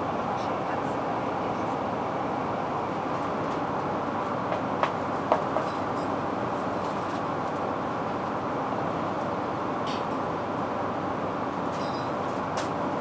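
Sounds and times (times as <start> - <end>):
airplane cabin airflow rush: 0.0 - 13.0.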